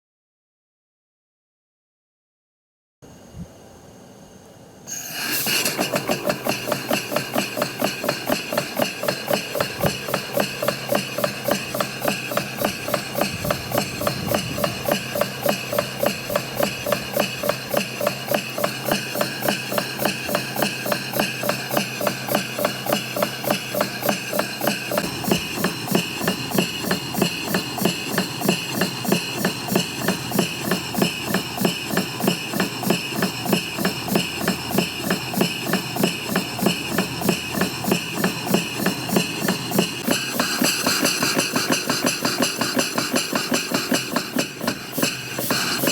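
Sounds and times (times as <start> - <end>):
model engine exhaust puffs: 4.9 - 45.9.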